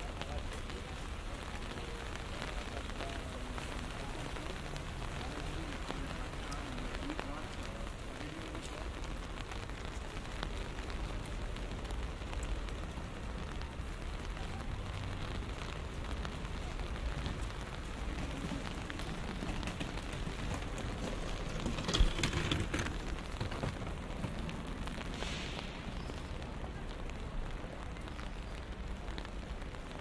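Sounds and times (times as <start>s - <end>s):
rain falling on street: 0.0s - 30.0s.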